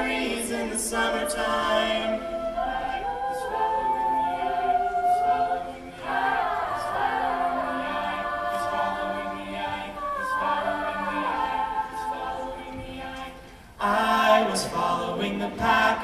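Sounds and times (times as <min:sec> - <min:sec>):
mixed choir singing chords: 0:00.0 - 0:16.0.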